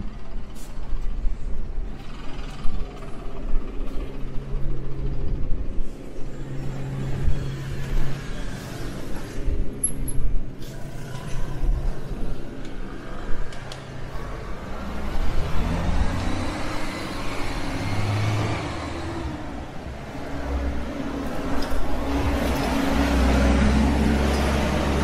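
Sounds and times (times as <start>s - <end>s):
bus engine running: 0.0s - 9.8s, 10.4s - 25.0s
cars passing: 0.0s - 9.8s, 10.4s - 25.0s.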